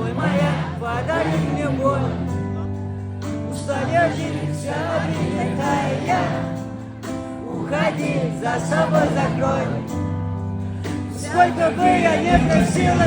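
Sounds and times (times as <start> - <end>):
pop song with person singing: 0.0 - 13.0.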